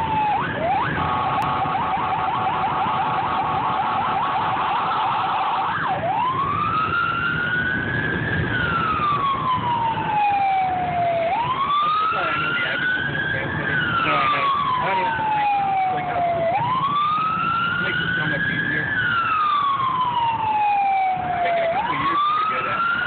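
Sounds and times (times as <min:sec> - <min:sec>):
low vehicle noise: 0:00.0 - 0:23.0
siren fast yelp: 0:00.0 - 0:23.0
siren slow wail: 0:00.0 - 0:23.0.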